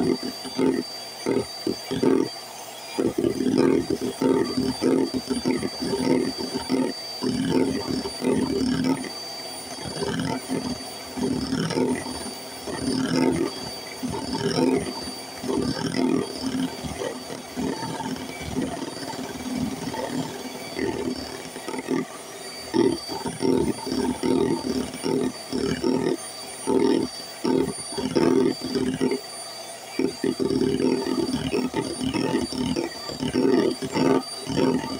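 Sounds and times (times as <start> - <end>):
beaters churning egg whites: 0.0 - 29.3, 30.0 - 34.9
electric hand mixer whine: 0.0 - 34.9.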